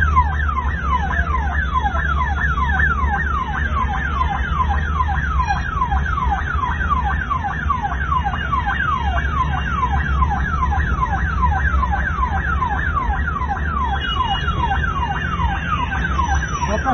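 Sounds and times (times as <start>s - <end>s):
ambulance siren wailing: 0.0s - 16.9s.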